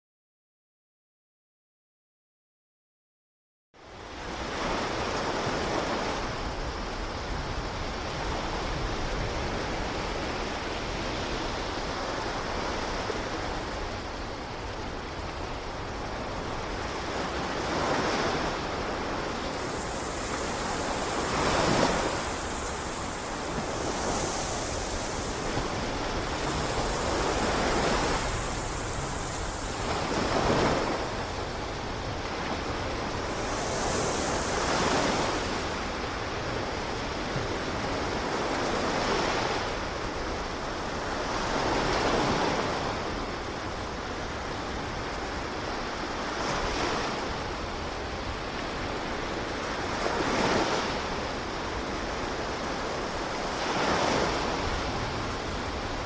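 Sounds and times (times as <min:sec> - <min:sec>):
ocean waves: 0:03.9 - 0:56.0.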